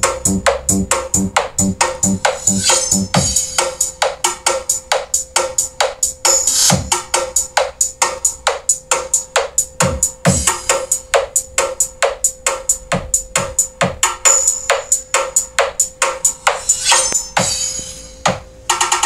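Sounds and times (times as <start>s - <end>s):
dance music with drum-machine beat: 0.0s - 19.0s.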